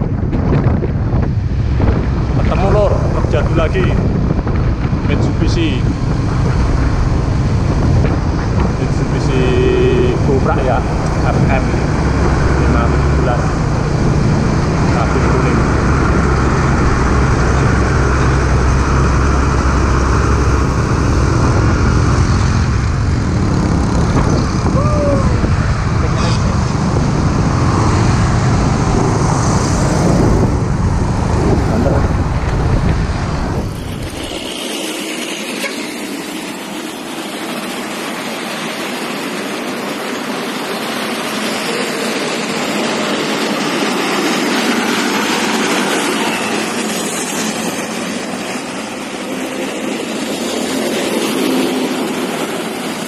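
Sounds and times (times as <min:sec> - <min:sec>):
diesel truck engine droning: 0:00.0 - 0:53.0
road traffic rushing: 0:00.0 - 0:53.0.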